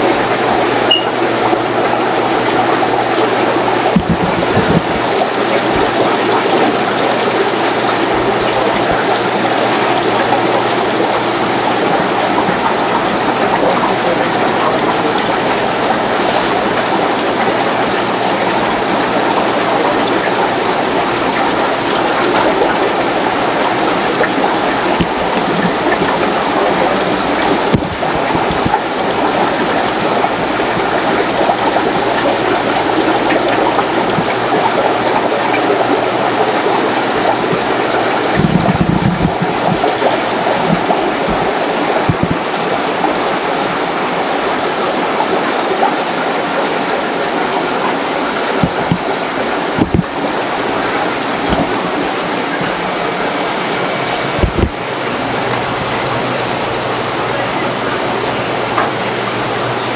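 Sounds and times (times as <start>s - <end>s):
aquarium air bubbling: 0.0s - 59.9s.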